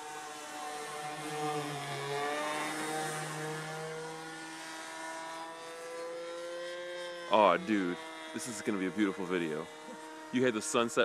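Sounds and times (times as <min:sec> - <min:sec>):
model airplane engine buzzing: 0:00.0 - 0:11.0.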